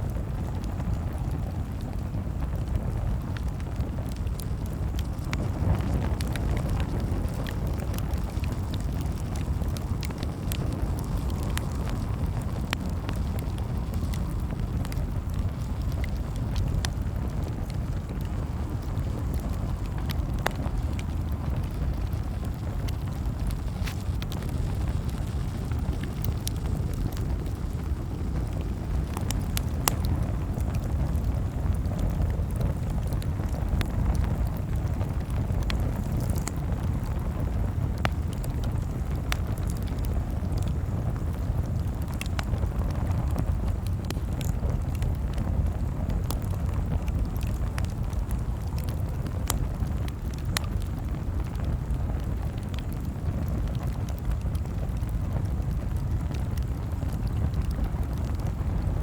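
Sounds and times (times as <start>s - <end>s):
steady low rumble: 0.0s - 53.1s
campfire crackling and popping: 0.0s - 59.0s.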